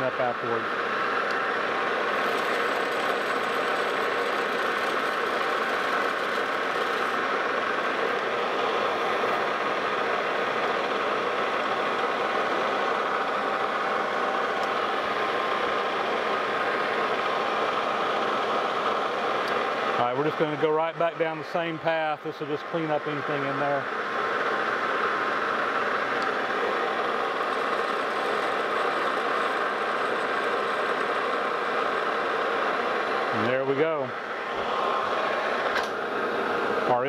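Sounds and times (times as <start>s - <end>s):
metal lathe running: 0.0s - 37.0s.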